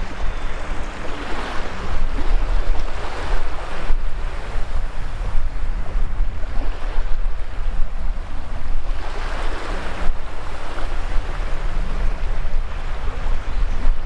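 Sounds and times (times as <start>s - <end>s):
surf washing up sand: 0.0s - 14.0s
wind rumbling on microphone: 0.0s - 14.0s.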